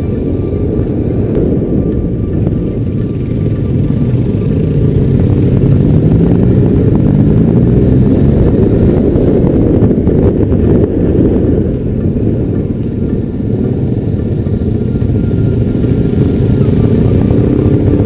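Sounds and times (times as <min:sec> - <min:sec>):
motorcycle engine revving: 0:00.0 - 0:18.0
wind and gravel rumble: 0:00.0 - 0:18.0.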